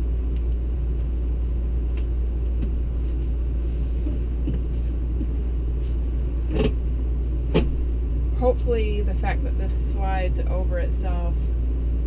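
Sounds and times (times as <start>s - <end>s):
machine low rumble: 0.0s - 12.0s.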